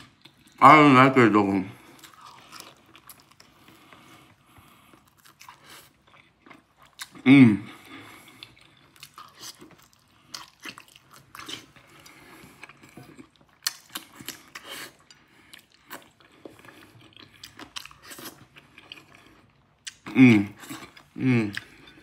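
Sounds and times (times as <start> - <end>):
person chewing food: 0.0 - 0.6, 1.8 - 22.0.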